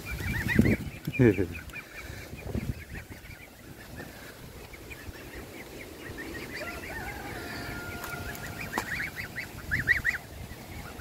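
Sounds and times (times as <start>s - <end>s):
goslings and ducklings peeping: 0.0s - 11.0s.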